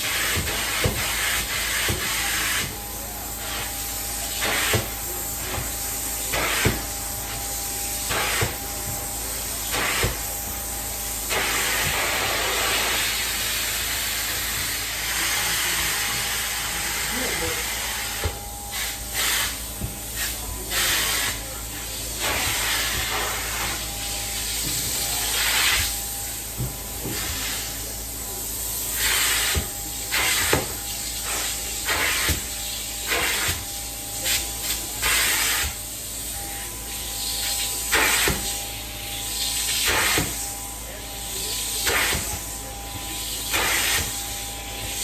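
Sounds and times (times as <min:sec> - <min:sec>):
carpet extraction wand hissing: 0:00.0 - 0:45.0.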